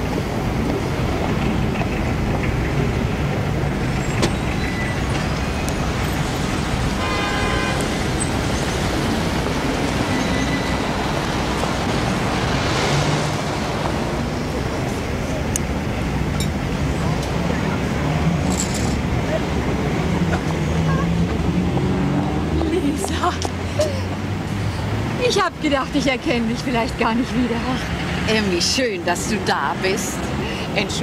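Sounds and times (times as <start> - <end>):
cars passing: 0.0 - 31.0.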